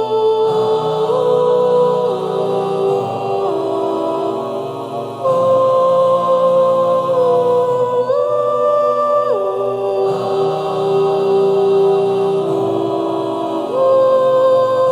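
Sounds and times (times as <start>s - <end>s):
background music of long held notes: 0.0s - 14.9s.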